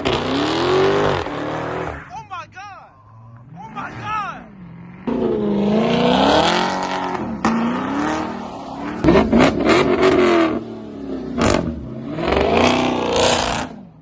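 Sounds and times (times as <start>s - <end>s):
car engine revving hard: 0.0s - 2.0s, 4.7s - 14.0s.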